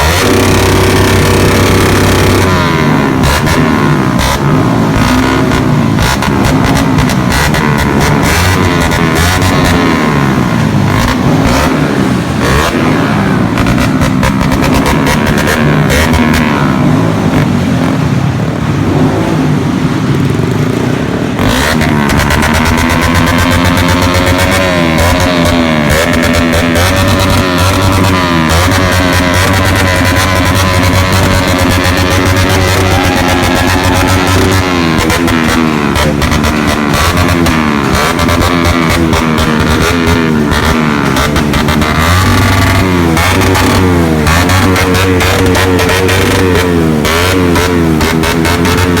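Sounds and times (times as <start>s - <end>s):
engine crackles: 0.0s - 49.0s
harsh loud sound: 0.0s - 49.0s
vehicle engines revving: 0.0s - 49.0s.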